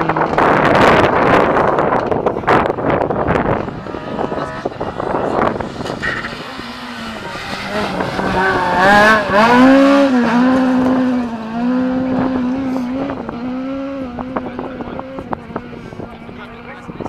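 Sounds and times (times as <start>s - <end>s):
rally car engine passing at full revs: 0.0s - 17.0s.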